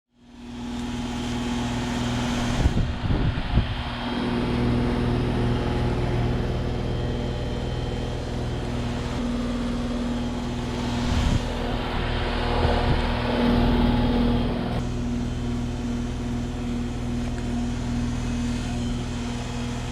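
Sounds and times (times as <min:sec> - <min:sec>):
condenser fan rushing: 0:00.1 - 0:19.9
heat pump compressor hum: 0:00.1 - 0:19.9.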